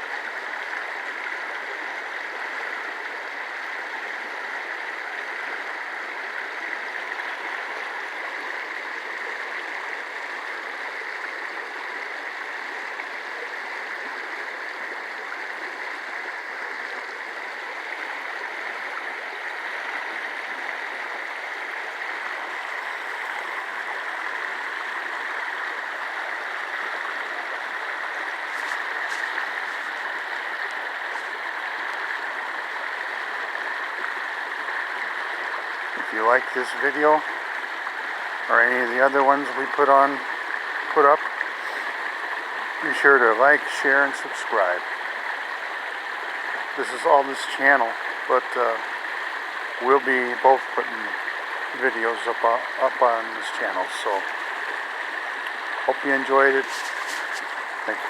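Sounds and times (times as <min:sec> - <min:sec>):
creek water flowing over rocks: 0:00.0 - 0:58.0.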